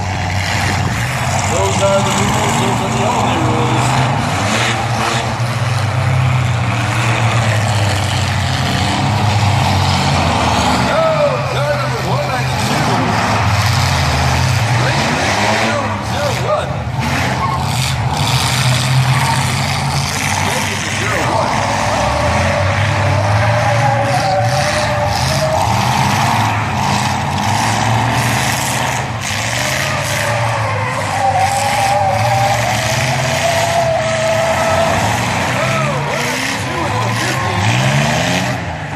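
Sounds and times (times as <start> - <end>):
truck engines running: 0.0 - 38.9.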